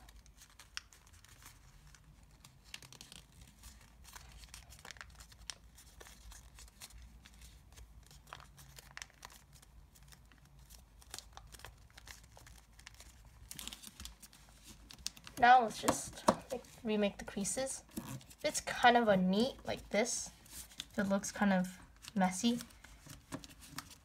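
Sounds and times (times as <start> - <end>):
paper crinkling and rustling: 0.0 - 17.2, 17.8 - 24.0.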